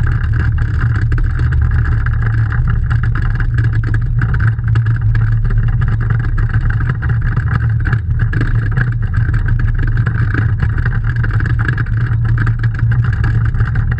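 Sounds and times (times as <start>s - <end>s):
car engine drone from cabin: 0.0s - 13.9s.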